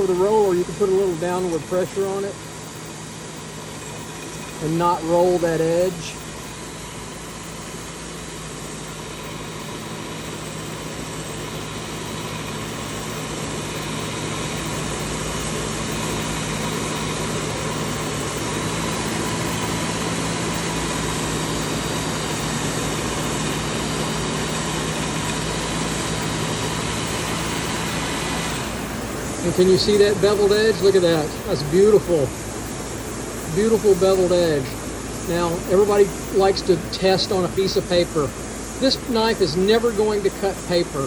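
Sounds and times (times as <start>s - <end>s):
belt sharpener motor hum: 0.0s - 41.0s.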